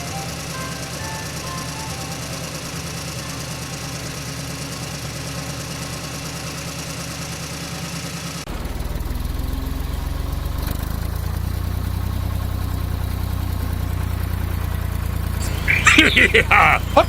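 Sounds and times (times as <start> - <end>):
deeper engine sound: 0.0 - 17.0
engine idling: 0.0 - 17.0.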